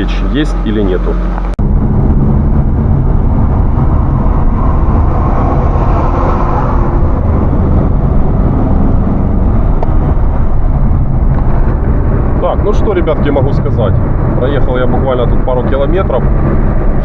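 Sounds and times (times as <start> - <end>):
car engine running: 0.0 - 17.0
road and tyre noise: 0.0 - 17.0.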